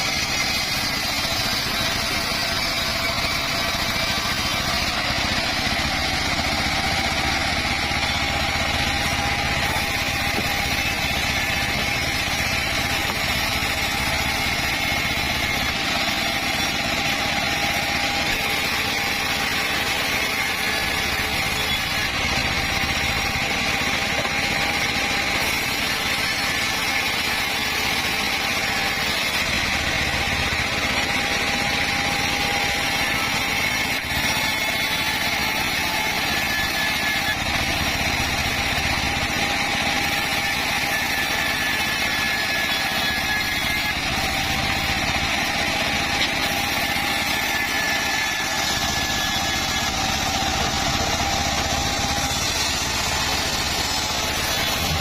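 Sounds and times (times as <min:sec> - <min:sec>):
circular saw cutting wood: 0:00.0 - 0:55.0.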